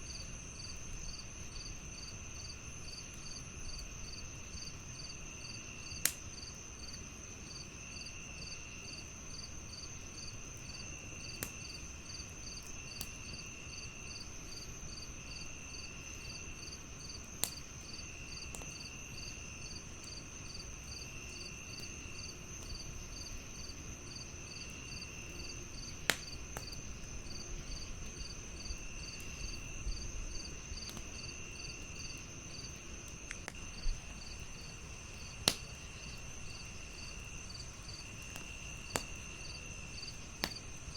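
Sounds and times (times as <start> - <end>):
crickets chirping: 0.0 - 40.9
wood fire crackling and popping: 4.3 - 7.1, 9.0 - 40.9.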